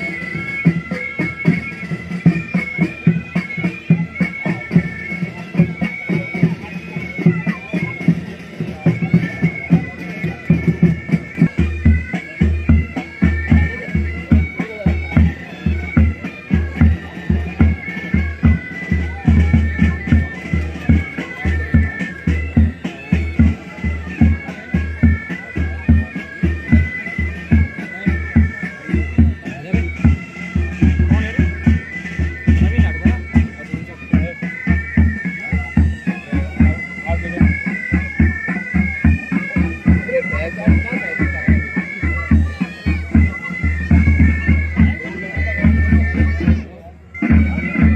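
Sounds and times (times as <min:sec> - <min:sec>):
bagpipes playing a march: 0:00.0 - 0:47.9.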